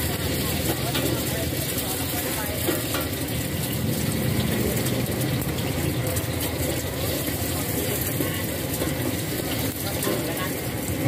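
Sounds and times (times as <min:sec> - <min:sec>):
egg sizzling in hot oil: 0:00.0 - 0:11.0
gas burner running: 0:00.0 - 0:11.0.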